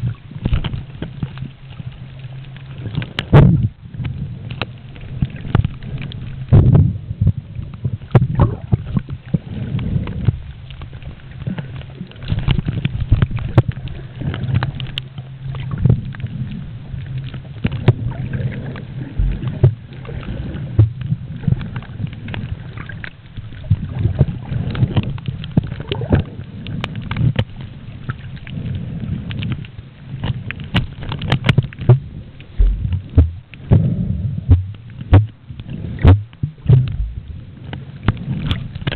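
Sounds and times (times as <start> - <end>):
underwater knocks and clicks: 0.0 - 38.9
underwater rush of moving water: 0.0 - 38.9.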